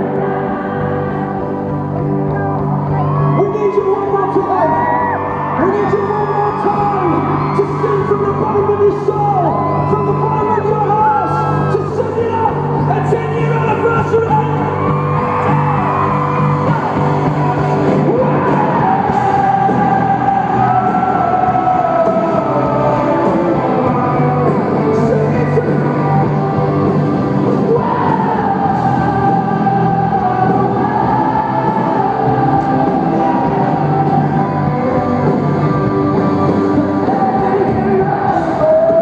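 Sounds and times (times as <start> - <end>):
crowd whooping and yelling: 0.0 - 39.0
live pop-rock band with singing: 0.0 - 39.0.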